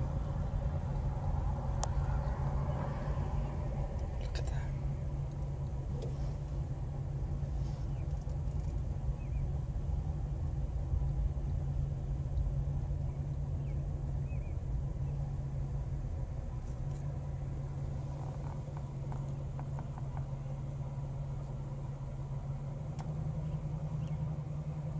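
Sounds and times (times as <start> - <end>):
vehicle engine idling: 0.0 - 24.9.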